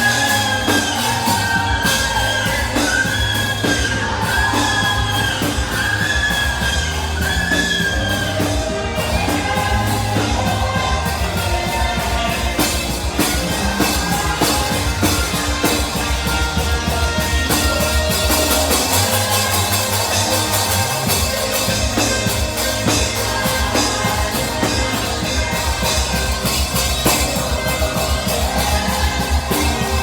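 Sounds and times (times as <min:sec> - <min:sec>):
bass line: 0:00.0 - 0:30.0
drum kit: 0:00.0 - 0:30.0
saxophone lead melody: 0:00.0 - 0:30.0.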